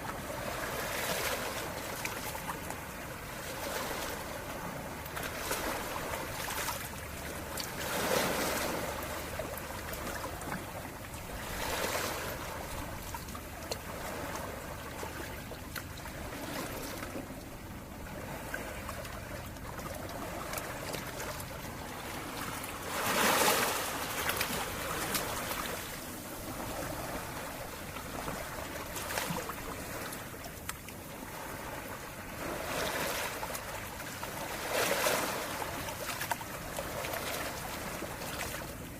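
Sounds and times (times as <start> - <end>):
calm sea waves washing in: 0.0 - 38.9.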